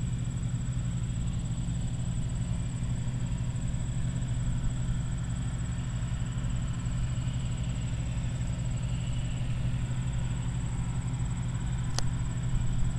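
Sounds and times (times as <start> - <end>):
combine harvester engine running: 0.0 - 12.9.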